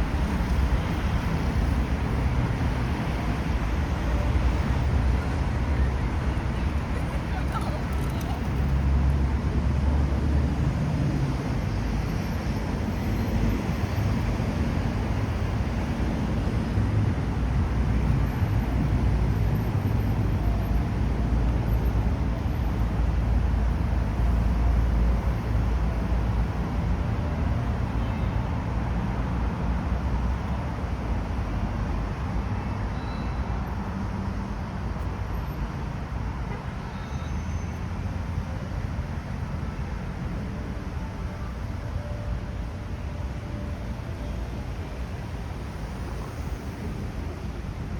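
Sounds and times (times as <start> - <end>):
low rumble of road traffic: 0.0 - 47.9.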